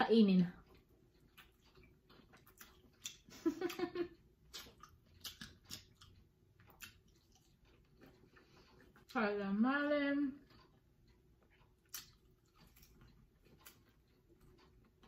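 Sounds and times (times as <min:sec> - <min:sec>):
person chewing with mouth clicks: 0:00.6 - 0:09.2, 0:10.3 - 0:15.0.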